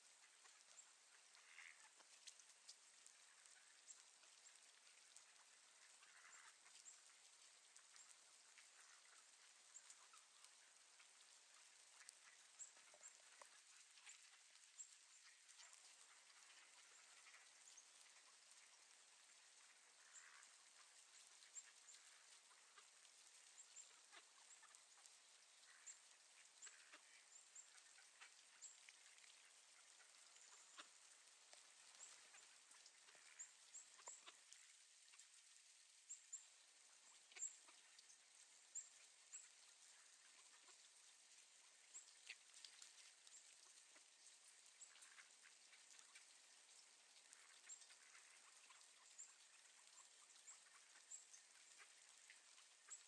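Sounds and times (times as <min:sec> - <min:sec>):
light rain ticking: 0:00.0 - 0:53.0.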